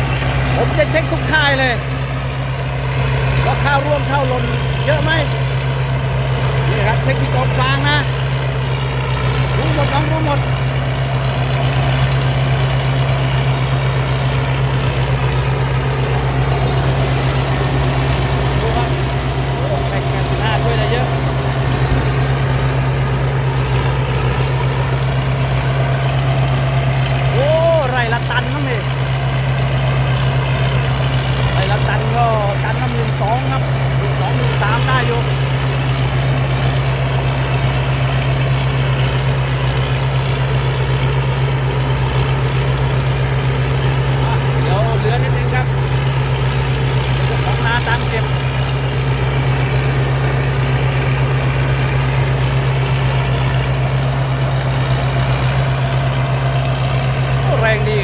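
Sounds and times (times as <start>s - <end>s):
combine harvester engine hum: 0.0s - 58.0s
high-pitched whine: 0.0s - 58.0s.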